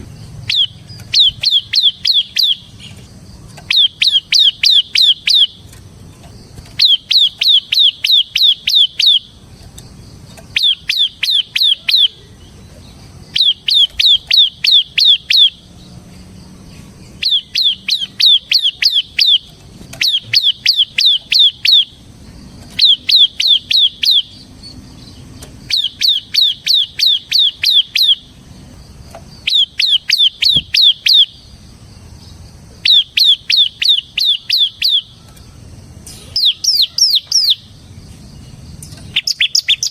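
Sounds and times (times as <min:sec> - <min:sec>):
bird singing sharp chirps: 0:00.0 - 0:39.9.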